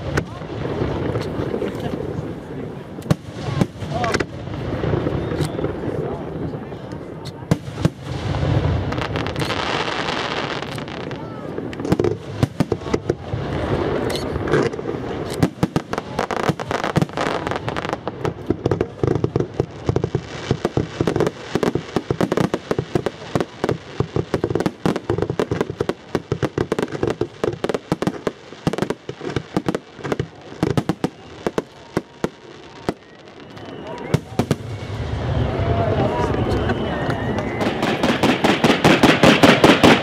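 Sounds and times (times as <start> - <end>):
fireworks bursting: 0.0 - 40.0.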